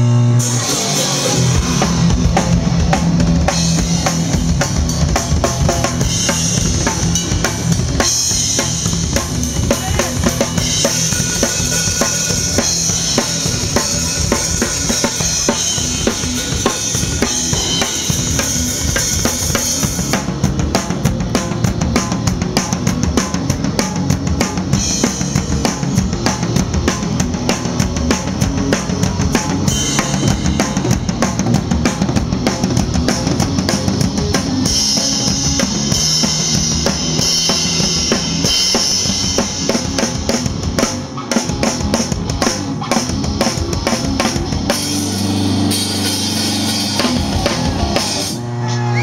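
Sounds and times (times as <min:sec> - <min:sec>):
drum kit hits: 0:00.0 - 0:48.4
rock band playing: 0:00.0 - 0:49.0.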